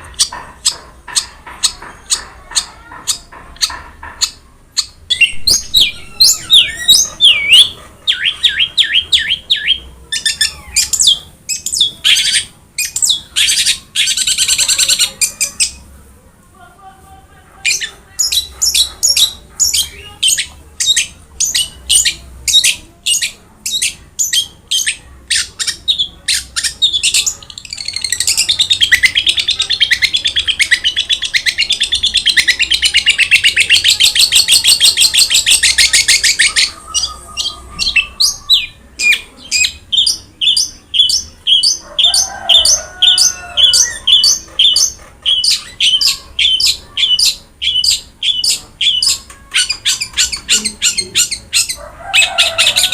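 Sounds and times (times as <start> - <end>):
bird chattering trill: 0.0 - 15.8, 17.7 - 52.9
bird singing sharp high calls: 4.2 - 15.8, 17.7 - 52.9.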